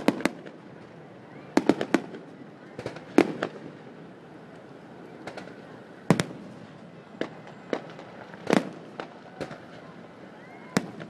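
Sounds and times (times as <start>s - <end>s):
fireworks bursting bangs: 0.0s - 4.1s, 5.1s - 11.0s.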